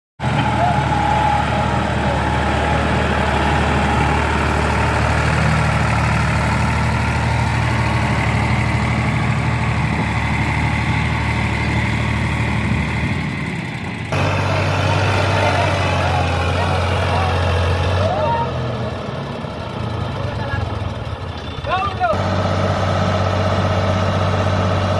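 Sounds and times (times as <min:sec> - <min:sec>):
tractor diesel engine running: 0:00.2 - 0:24.9.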